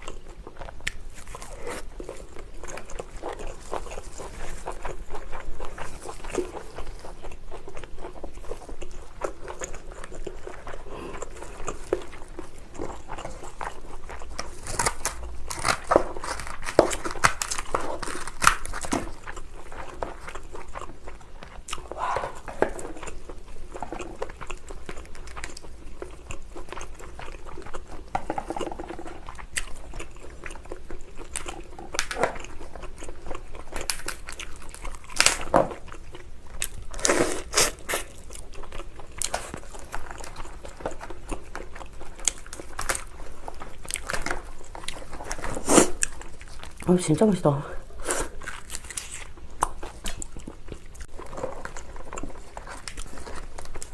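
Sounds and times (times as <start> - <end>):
shell crunching and crackling: 0.0 - 47.3
chewing with wet mouth sounds: 0.0 - 53.9.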